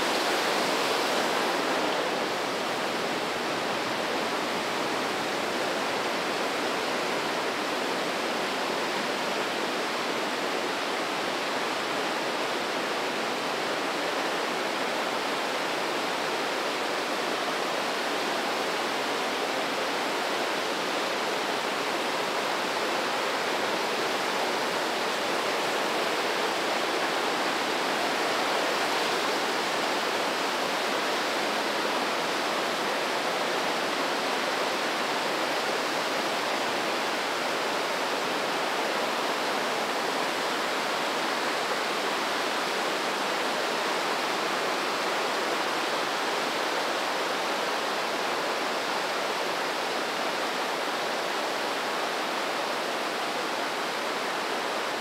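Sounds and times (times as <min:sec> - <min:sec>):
river rushing through gorge: 0:00.0 - 0:55.0.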